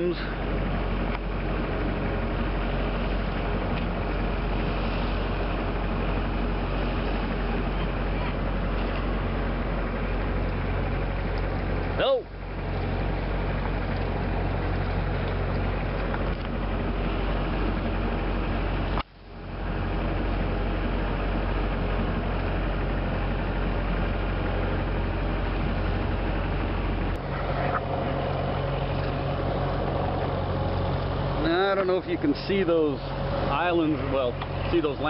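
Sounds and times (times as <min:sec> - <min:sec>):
boat engine running: 0:00.0 - 0:35.0
rushing wind: 0:00.0 - 0:35.0
water noise: 0:00.0 - 0:35.0.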